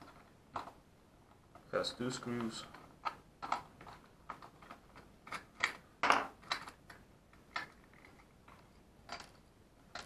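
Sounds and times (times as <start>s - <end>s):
plastic parts being handled: 0.0s - 10.0s.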